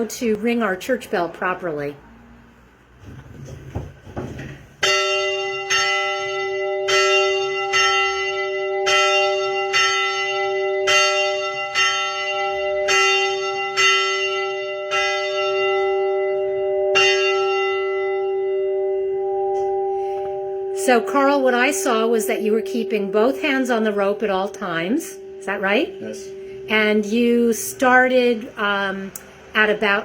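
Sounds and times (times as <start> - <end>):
church bell ringing: 4.8 - 30.0.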